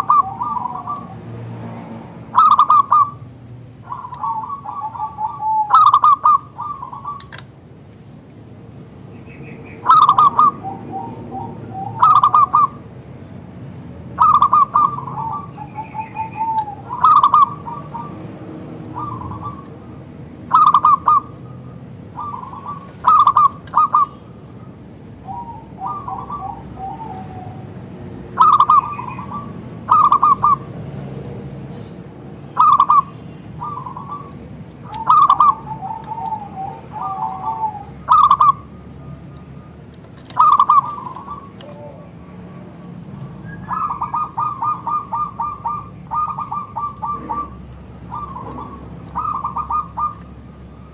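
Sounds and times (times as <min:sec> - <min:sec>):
dove cooing: 0:00.0 - 0:01.4, 0:02.1 - 0:07.4, 0:09.2 - 0:12.9, 0:14.1 - 0:30.8, 0:32.6 - 0:39.2, 0:40.2 - 0:50.9.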